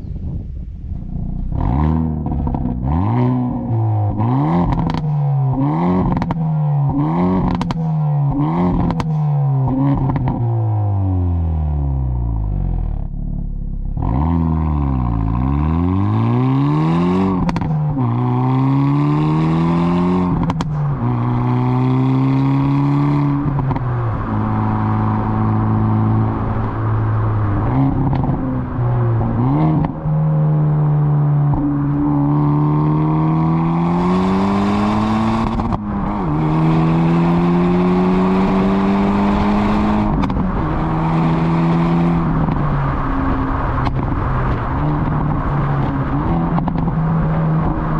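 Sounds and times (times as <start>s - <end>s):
car engine accelerating hard: 0.8s - 47.9s.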